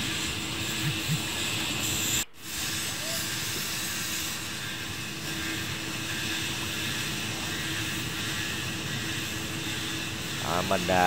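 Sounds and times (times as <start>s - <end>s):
even hiss: 0.0s - 11.0s
steady machine hum: 0.0s - 11.0s.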